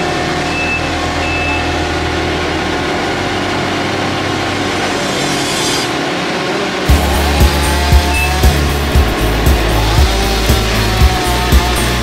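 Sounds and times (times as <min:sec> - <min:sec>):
large engine running: 0:00.0 - 0:12.0.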